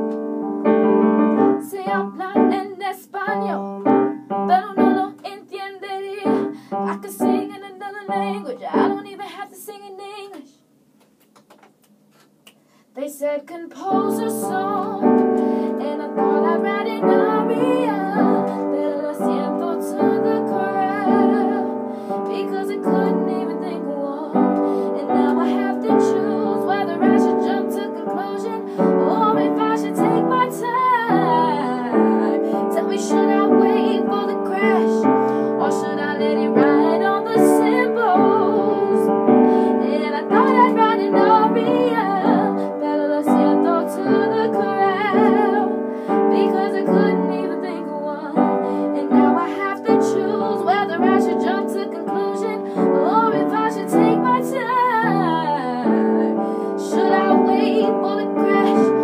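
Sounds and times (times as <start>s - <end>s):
piano chords: 0.0s - 9.1s, 13.8s - 59.0s
girl singing with vibrato: 1.6s - 3.8s, 4.4s - 10.6s, 13.0s - 59.0s.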